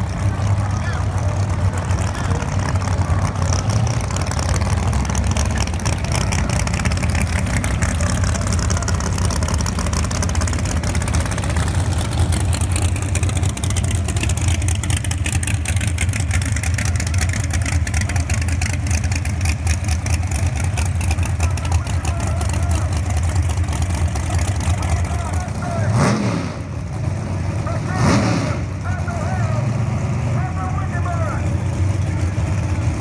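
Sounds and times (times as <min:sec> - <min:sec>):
race car engine idling unevenly: 0:00.0 - 0:33.0
race car engines running loudly: 0:00.0 - 0:33.0.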